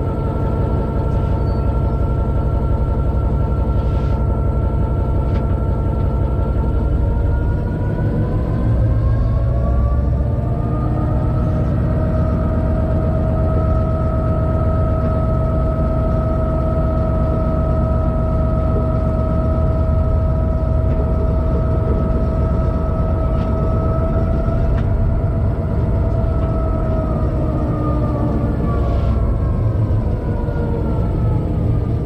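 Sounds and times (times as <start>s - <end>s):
locomotive engine rumble: 0.0s - 32.0s
steady whine: 0.0s - 32.0s.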